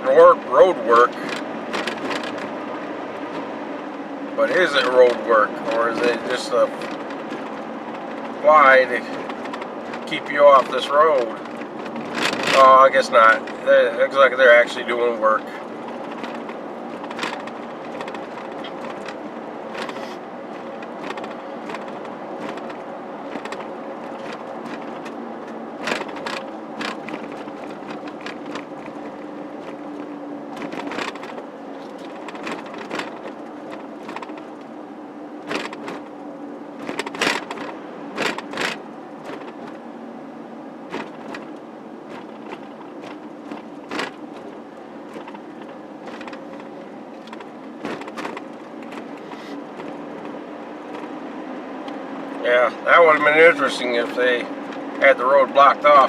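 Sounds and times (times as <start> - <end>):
car engine and road hum: 0.0 - 56.0.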